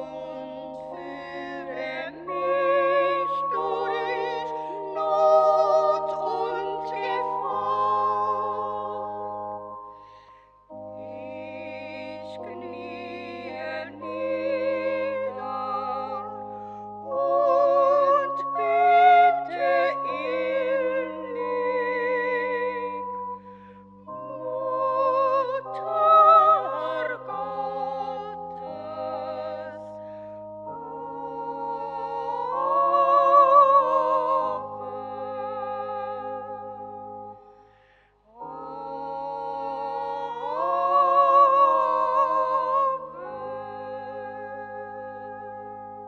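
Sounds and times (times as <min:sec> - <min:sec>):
choir singing a hymn: 0:00.0 - 0:09.8, 0:10.7 - 0:37.4, 0:38.4 - 0:46.0.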